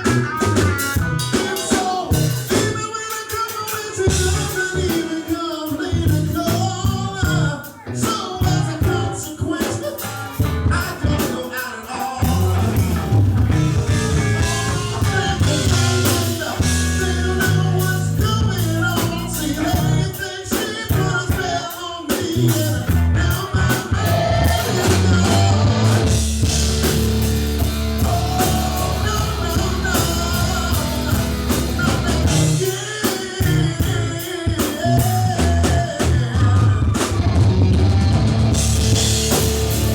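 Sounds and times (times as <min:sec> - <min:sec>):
person singing lead vocal: 0:00.0 - 0:39.4
rock band playing: 0:00.0 - 0:39.9.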